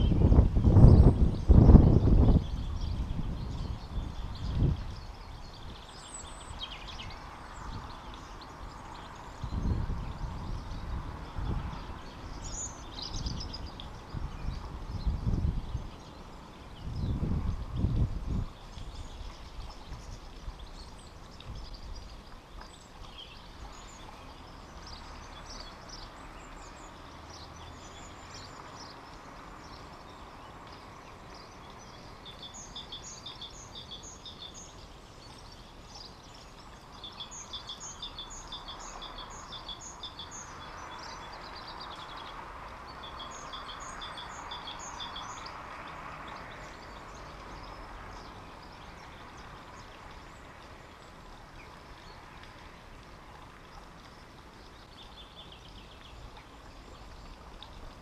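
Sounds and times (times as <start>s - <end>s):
small birds chirping: 0.0s - 58.0s
soft outdoor hiss: 0.0s - 58.0s.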